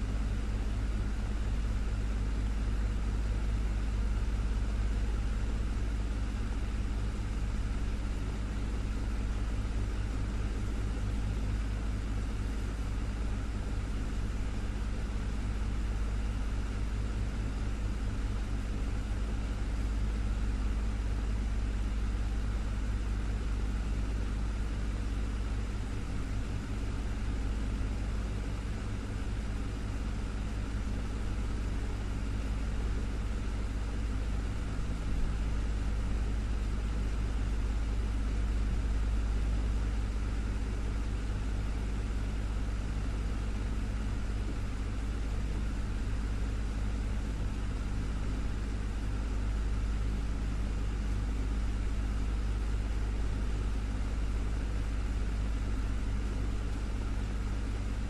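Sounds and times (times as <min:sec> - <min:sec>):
desktop fan running: 0:00.0 - 0:58.0.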